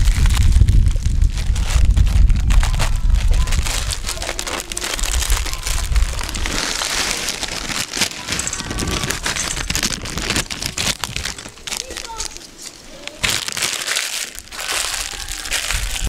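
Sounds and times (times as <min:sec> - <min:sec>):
plastic packet crinkling: 0:00.0 - 0:16.0.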